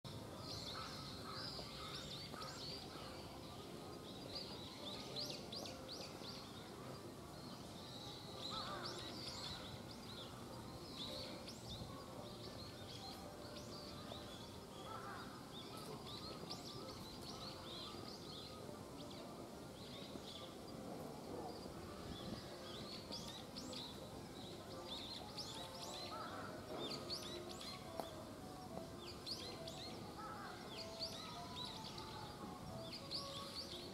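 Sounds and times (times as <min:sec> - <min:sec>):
faint outdoor background noise: 0:00.0 - 0:33.9.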